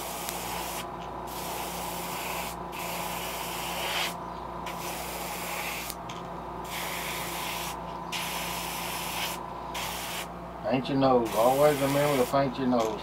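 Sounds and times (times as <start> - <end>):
airbrush spraying hiss: 0.0 - 6.0, 6.6 - 10.3, 11.2 - 12.4
steady low hum: 0.0 - 13.0.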